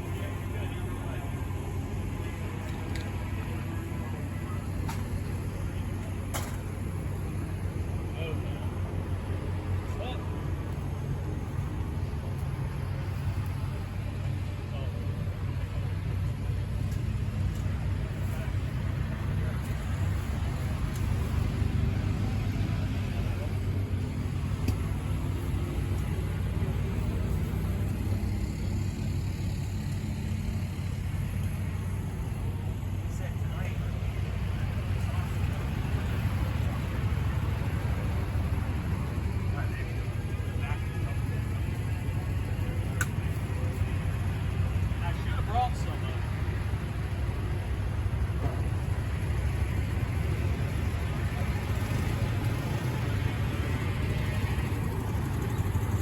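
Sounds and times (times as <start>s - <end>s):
low engine rumble: 0.0s - 56.0s
distant motorcycles racing: 2.2s - 56.0s.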